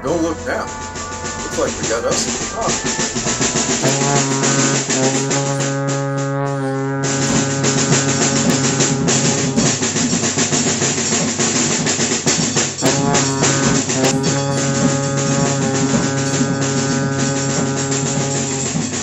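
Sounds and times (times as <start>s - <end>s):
drum kit beat: 0.0s - 19.0s
held chords: 0.0s - 19.0s.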